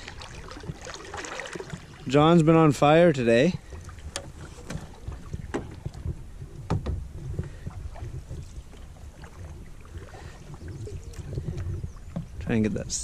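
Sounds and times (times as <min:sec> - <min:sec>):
water swishing off paddle: 0:00.0 - 0:12.4
wind rumble on microphone: 0:00.0 - 0:13.0.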